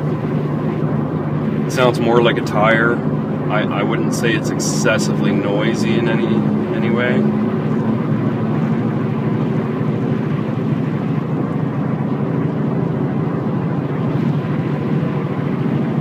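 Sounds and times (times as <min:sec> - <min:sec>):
low whirring hum: 0:00.0 - 0:16.0
road and tyre noise: 0:00.0 - 0:16.0.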